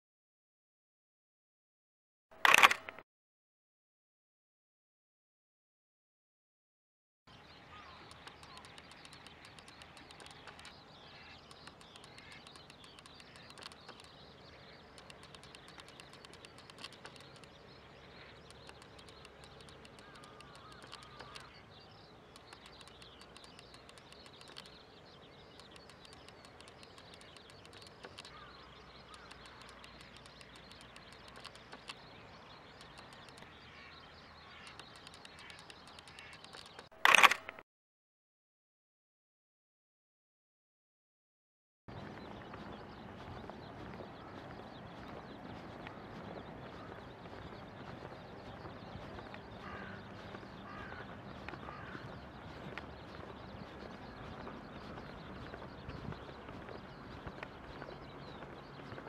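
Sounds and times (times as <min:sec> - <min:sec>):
birds calling and chirping: 0:07.3 - 0:37.6, 0:41.9 - 0:59.0.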